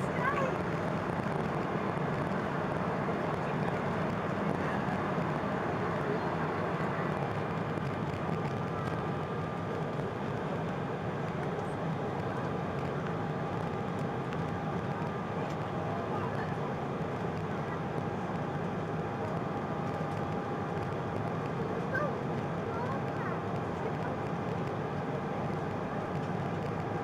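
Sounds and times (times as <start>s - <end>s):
faint steady whine: 0.0s - 27.0s
jet engine roar in cabin: 0.0s - 27.0s.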